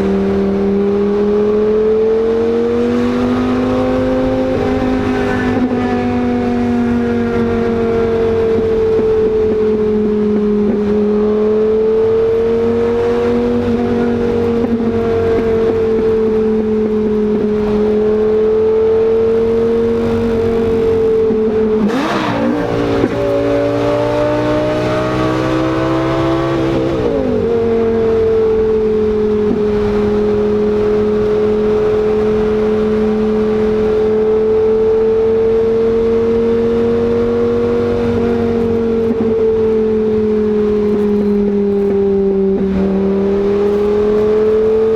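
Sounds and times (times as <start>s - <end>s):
car engine exhaust drone: 0.0s - 44.9s.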